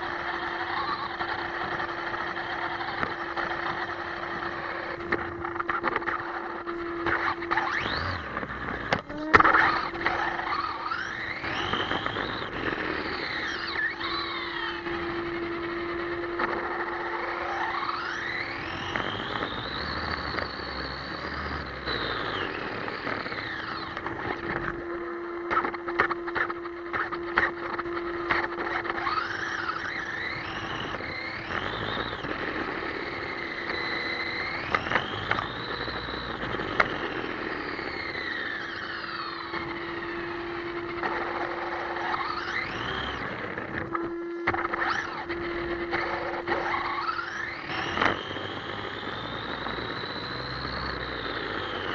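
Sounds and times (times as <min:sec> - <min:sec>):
electric motor whining: 0:00.0 - 0:51.9.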